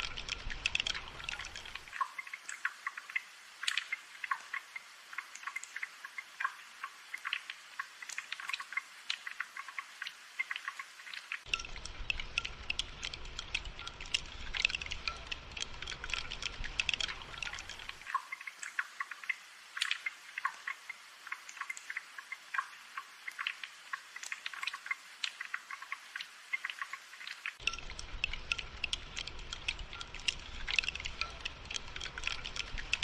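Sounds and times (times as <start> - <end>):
rain dripping and pattering: 0.0 - 33.0.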